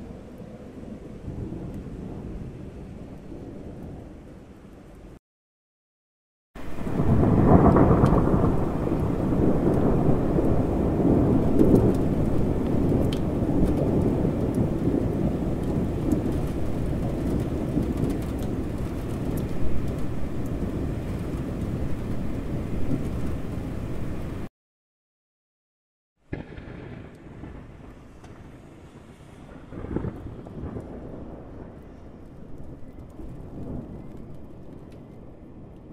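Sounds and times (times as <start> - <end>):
deep rumble of thunder: 0.0 - 4.6, 6.6 - 24.5, 26.3 - 35.9
steady rain: 0.0 - 5.2, 6.6 - 24.5, 26.2 - 35.9.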